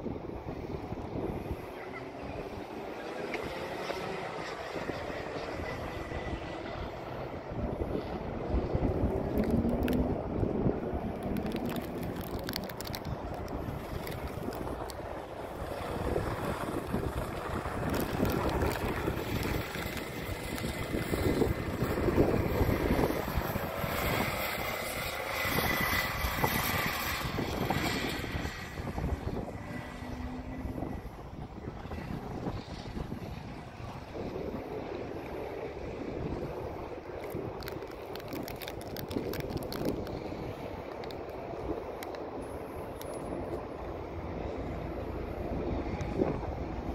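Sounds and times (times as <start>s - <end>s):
wind buffeting microphone: 0.0s - 46.9s
go-kart engine buzz: 0.1s - 37.8s.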